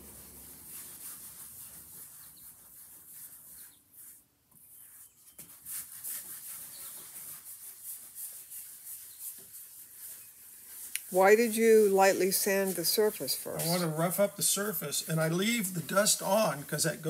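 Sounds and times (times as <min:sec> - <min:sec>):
pad rubbing on wood: 0:00.0 - 0:17.0.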